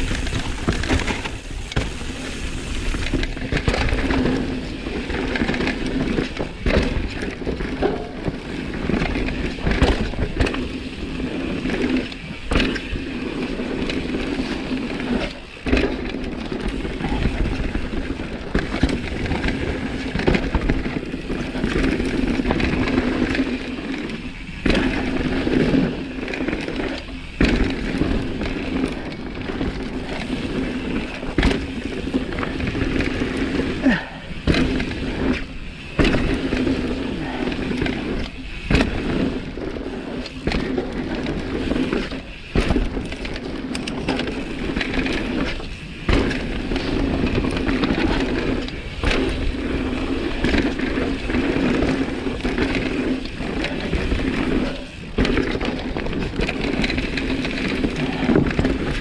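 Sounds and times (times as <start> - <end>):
bike knocks and rattles on bumps: 0.0 - 59.0
bike tyre and drivetrain noise: 0.0 - 59.0.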